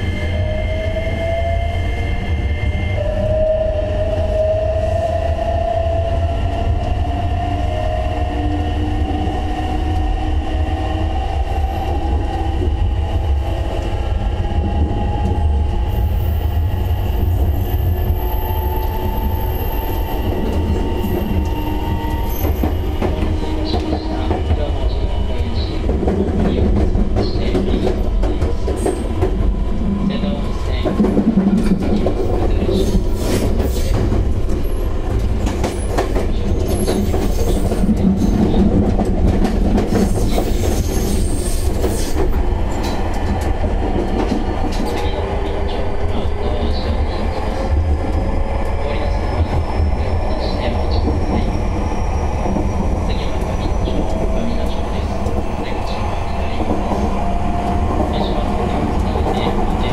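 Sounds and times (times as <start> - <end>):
low rumble of wheels on rail: 0.0 - 59.9.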